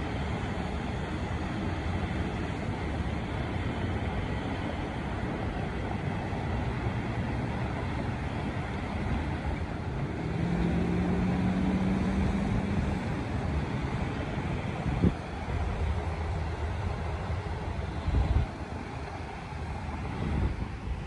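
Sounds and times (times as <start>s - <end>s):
road traffic noise: 0.0s - 21.0s
vehicle engine hum: 0.0s - 21.0s.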